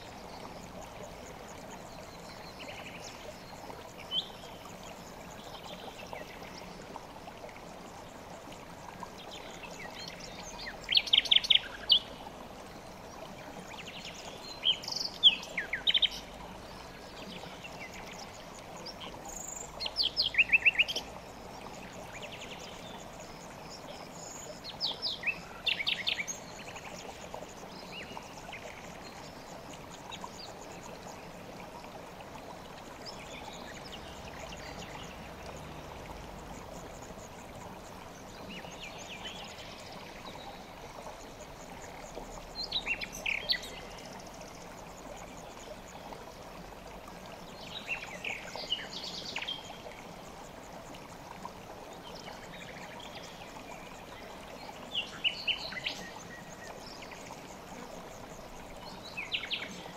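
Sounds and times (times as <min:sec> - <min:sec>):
mountain stream running: 0:00.0 - 0:59.9
songbird singing: 0:00.0 - 0:59.9.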